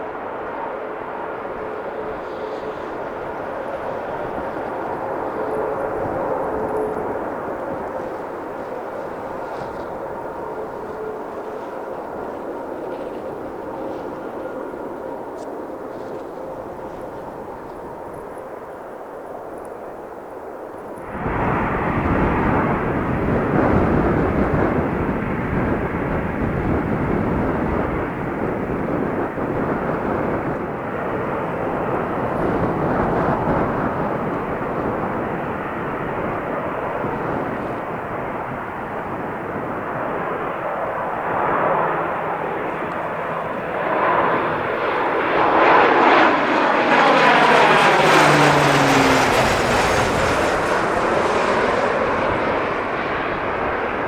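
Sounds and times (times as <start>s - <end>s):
airliner engines roaring: 0.0s - 54.0s.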